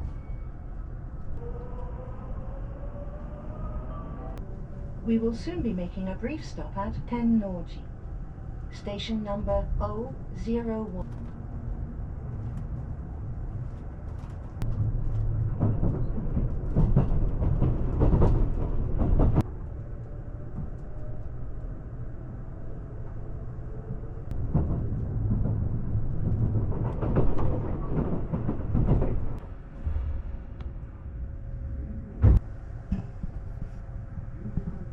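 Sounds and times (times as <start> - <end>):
train rumble and rail clatter: 0.0 - 34.9.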